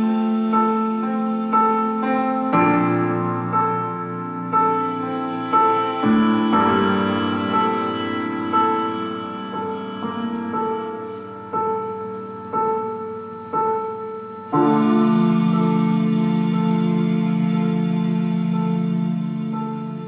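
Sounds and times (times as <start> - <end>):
slow instrumental music: 0.0 - 20.0.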